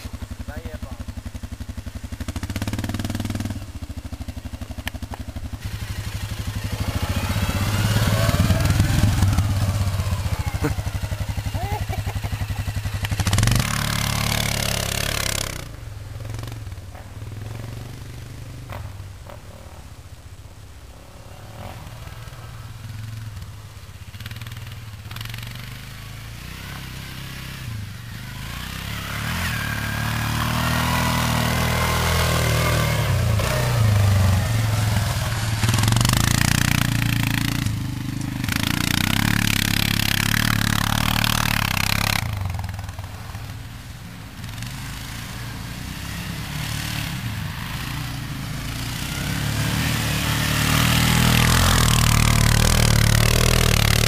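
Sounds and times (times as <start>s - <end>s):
quad bike engine revving: 0.0s - 20.2s, 20.9s - 54.0s
wheels spraying sand: 0.0s - 54.0s.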